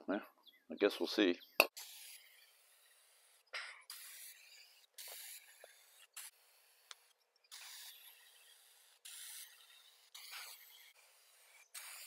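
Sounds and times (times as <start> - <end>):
spray paint can hissing: 1.7 - 12.0.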